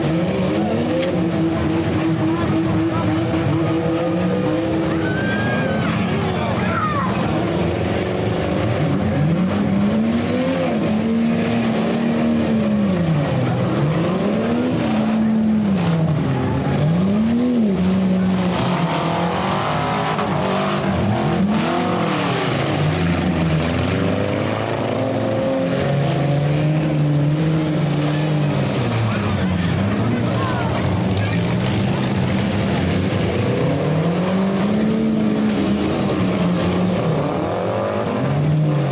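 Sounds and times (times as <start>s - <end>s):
car engines revving: 0.0s - 38.9s
rattling bodywork and tyres: 0.0s - 38.9s.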